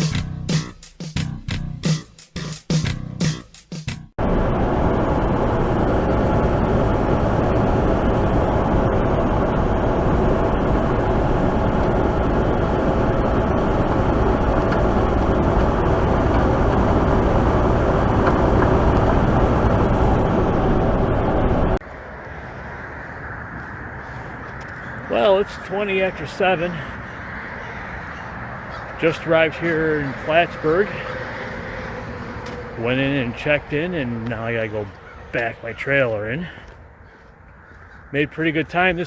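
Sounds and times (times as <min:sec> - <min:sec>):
truck engine and road noise: 0:00.0 - 0:39.0.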